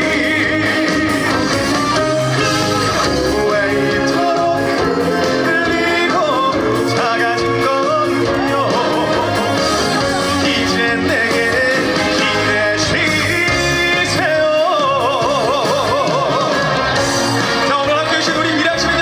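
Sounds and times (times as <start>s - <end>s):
live band playing trot song: 0.0s - 19.0s.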